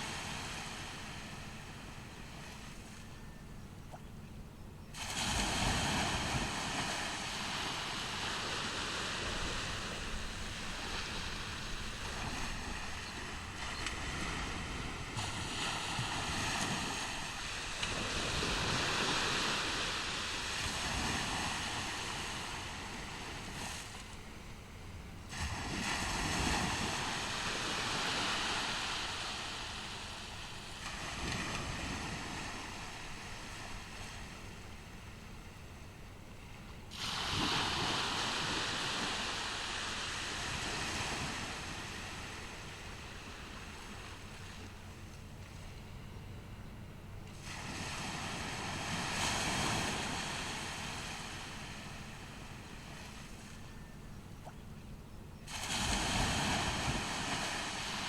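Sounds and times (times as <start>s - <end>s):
waves breaking on beach: 0.0s - 4.2s, 4.9s - 46.3s, 47.1s - 54.7s, 55.4s - 58.0s.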